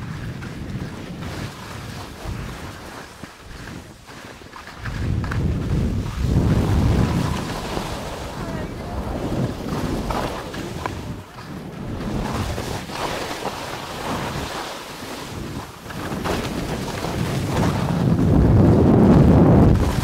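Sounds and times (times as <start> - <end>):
wind rushing over microphone: 0.0 - 20.0
sliding over snow scrape: 0.1 - 18.8.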